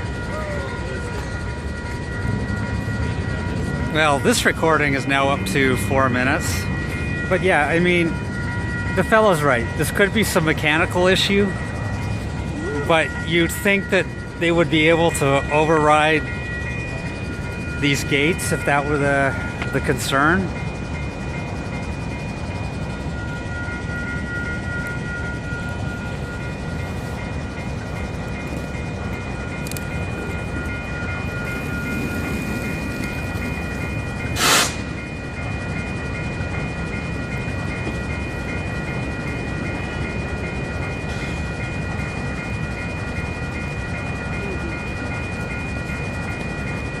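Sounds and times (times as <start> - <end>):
level-crossing warning bell: 0.0 - 47.0
low rumble of stopped train: 0.0 - 47.0.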